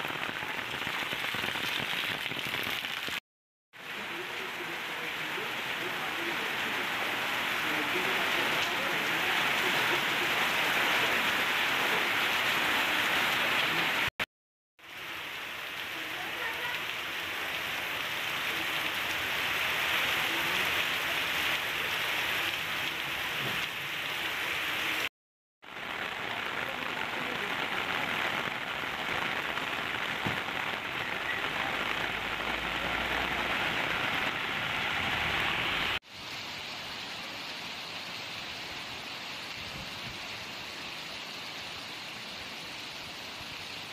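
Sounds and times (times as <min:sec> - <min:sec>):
heavy rain pouring: 0:00.0 - 0:03.2, 0:03.8 - 0:43.9.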